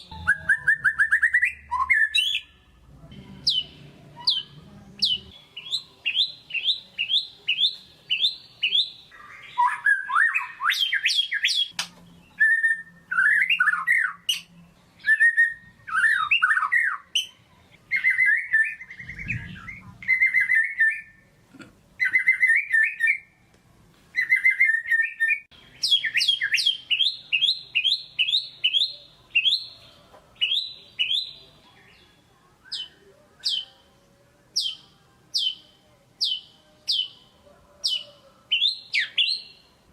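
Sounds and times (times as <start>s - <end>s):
bird singing varied song: 0.0s - 21.3s, 22.0s - 23.5s, 24.1s - 39.9s.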